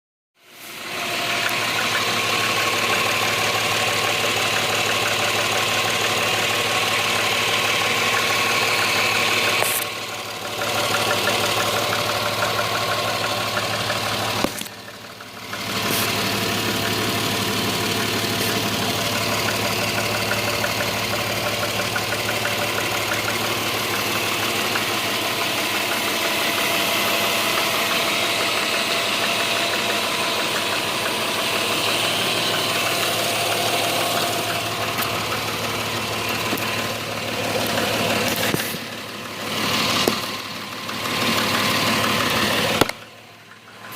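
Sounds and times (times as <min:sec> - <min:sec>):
engine idling with knocking: 0:00.4 - 0:43.9.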